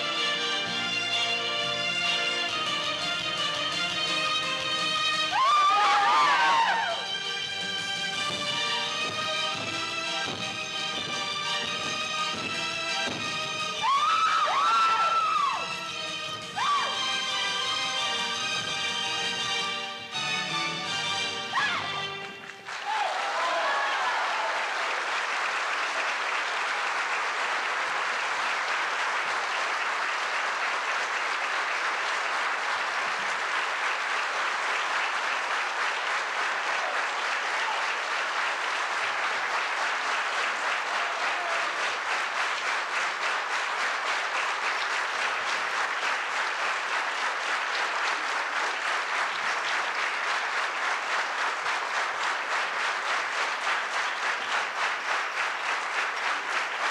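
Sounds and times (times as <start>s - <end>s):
audience applauding: 0.0s - 56.9s.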